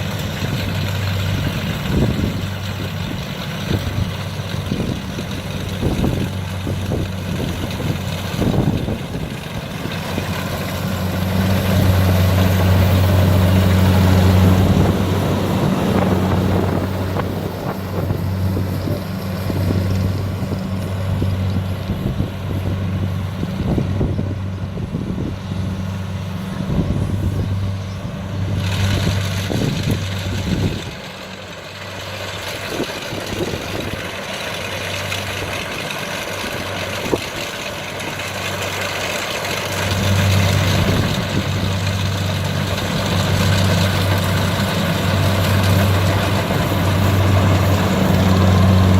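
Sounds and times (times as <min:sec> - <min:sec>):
combine harvester engine hum: 0:00.0 - 0:48.9.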